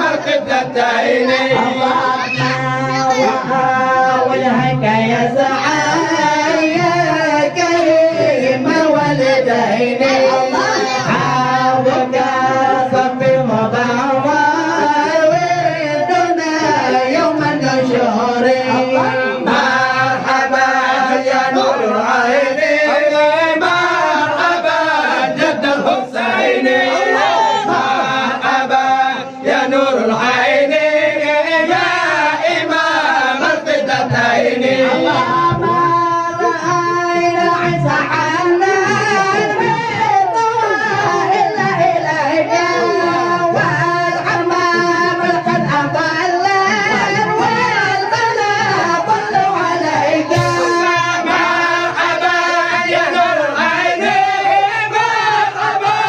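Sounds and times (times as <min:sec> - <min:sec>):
men chanting into a microphone: 0:00.0 - 0:56.0.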